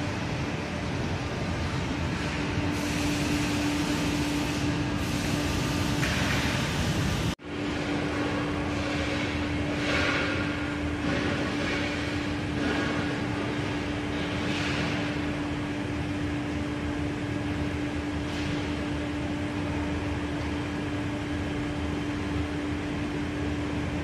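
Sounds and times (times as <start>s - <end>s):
grinding machine hum: 0.0s - 24.0s.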